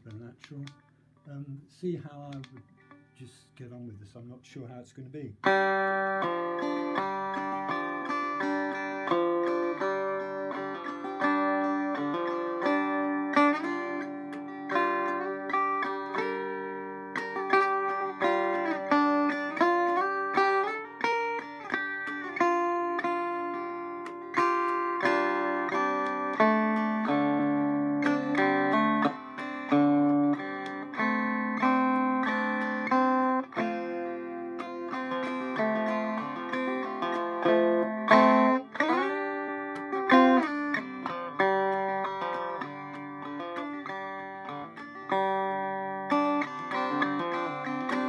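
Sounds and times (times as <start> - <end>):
banjo picked notes and chords: 5.4 - 48.0.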